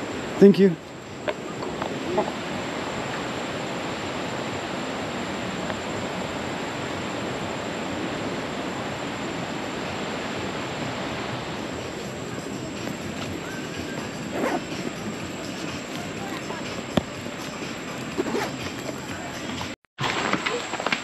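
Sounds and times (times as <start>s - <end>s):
waterfall rushing: 0.0s - 19.7s.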